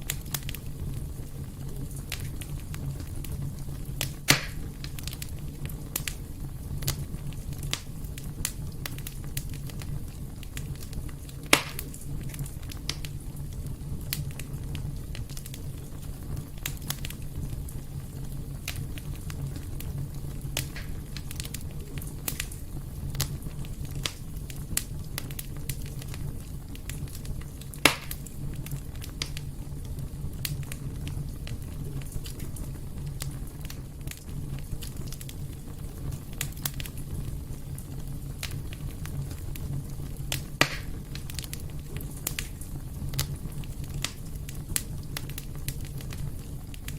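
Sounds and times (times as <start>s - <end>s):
fire popping: 0.0s - 46.9s
fire rumbling: 0.0s - 46.9s
wood fire crackling: 0.0s - 46.9s.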